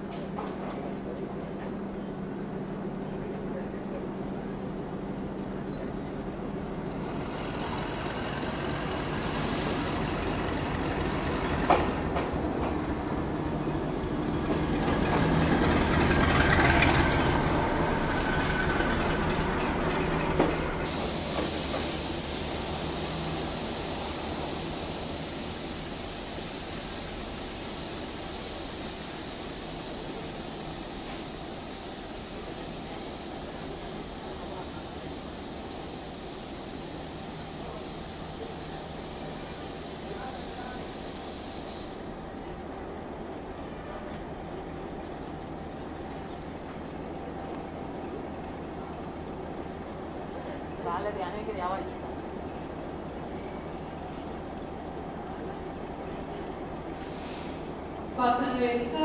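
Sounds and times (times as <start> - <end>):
diesel locomotive engine hum: 0.0 - 59.0.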